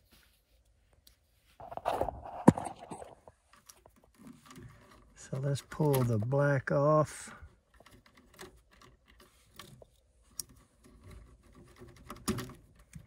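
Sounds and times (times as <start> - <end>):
wires clicking and rustling: 0.0 - 13.0.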